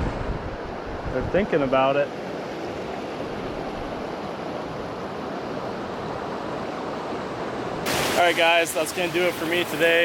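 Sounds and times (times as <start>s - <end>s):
creek water rushing: 1.7s - 10.0s.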